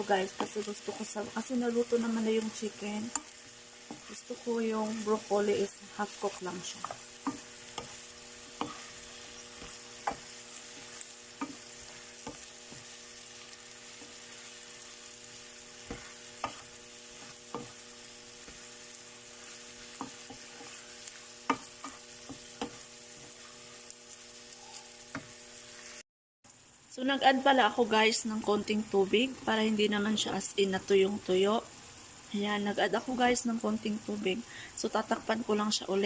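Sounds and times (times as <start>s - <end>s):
food sizzling in a frying pan: 0.0s - 36.0s.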